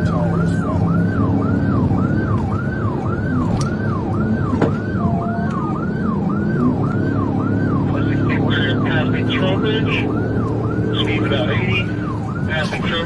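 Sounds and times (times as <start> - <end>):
car engine and road noise: 0.0 - 13.0
police siren yelping: 0.0 - 13.0.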